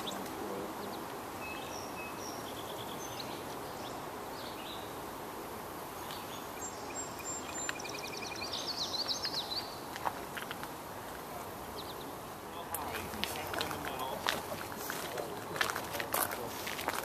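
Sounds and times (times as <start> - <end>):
songbirds chirping: 0.0 - 17.0
steady outdoor hiss: 0.0 - 17.0.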